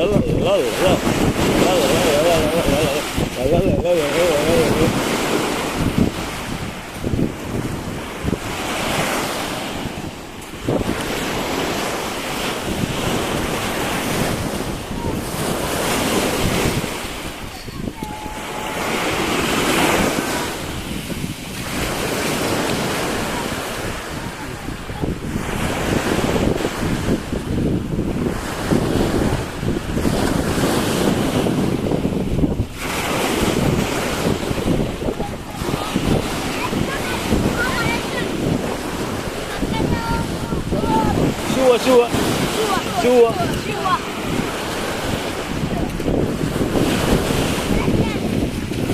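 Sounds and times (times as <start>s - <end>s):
ocean surf breaking: 0.0s - 48.9s
wind buffeting microphone: 0.0s - 48.9s.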